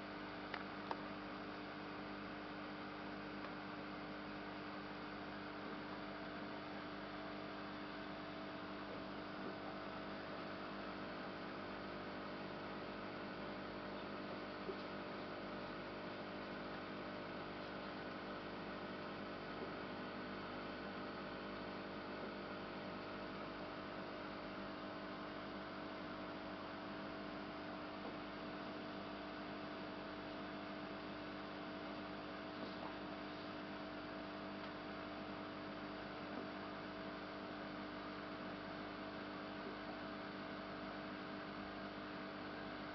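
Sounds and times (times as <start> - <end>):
electrical hum: 0.0 - 42.9.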